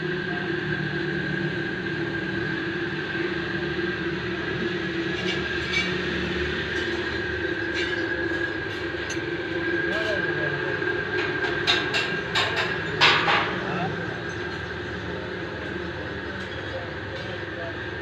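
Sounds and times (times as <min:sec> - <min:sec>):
constant whine: 0:00.0 - 0:18.0.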